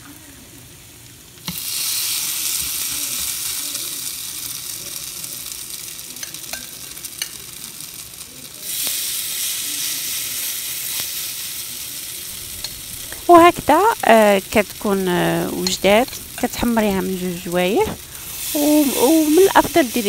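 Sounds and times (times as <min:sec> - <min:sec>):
grated potato sizzling in oil: 0:00.0 - 0:20.0.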